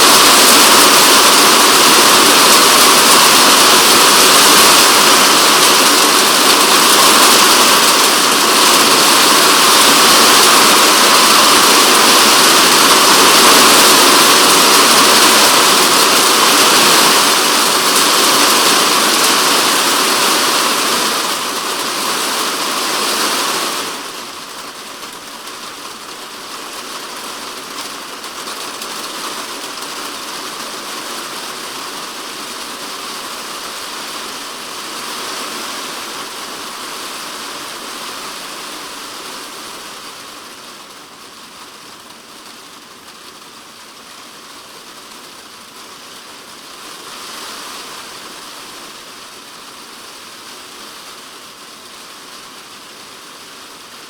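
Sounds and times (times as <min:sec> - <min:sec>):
heavy rain on plastic roof: 0:00.0 - 0:54.0.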